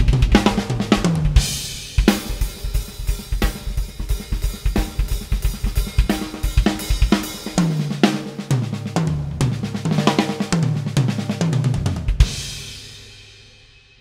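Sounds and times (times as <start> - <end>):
bass drum and snare strokes: 0.0 - 13.7.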